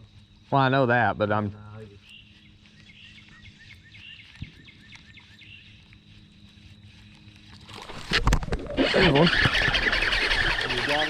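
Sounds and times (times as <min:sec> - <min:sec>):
small birds chirping: 0:00.0 - 0:07.7, 0:09.2 - 0:11.0
steady low hum: 0:00.0 - 0:11.0.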